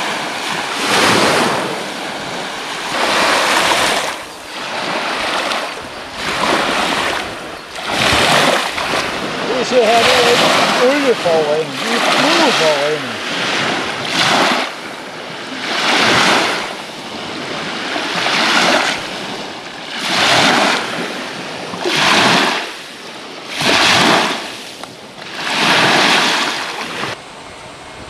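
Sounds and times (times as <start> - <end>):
small waves washing on sand: 0.0 - 28.0.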